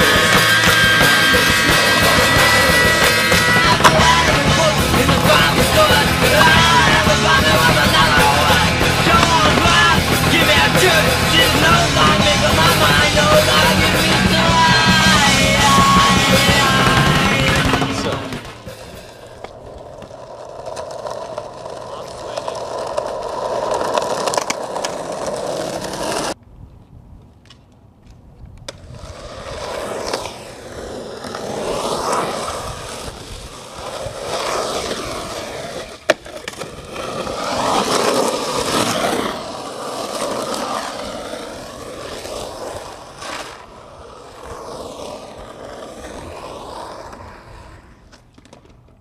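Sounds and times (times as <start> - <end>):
skateboard clack: 0.0 - 26.4, 27.3 - 49.0
skateboard wheels rolling on concrete: 0.0 - 49.0.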